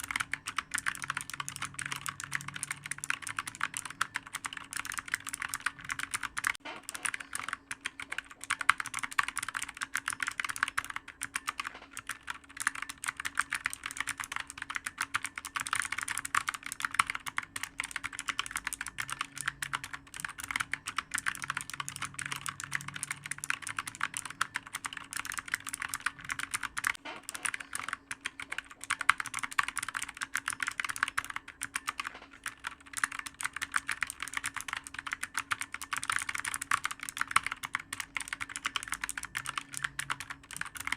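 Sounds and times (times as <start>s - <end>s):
faint steady hum: 0.0s - 40.9s
fast keyboard typing: 0.0s - 40.9s.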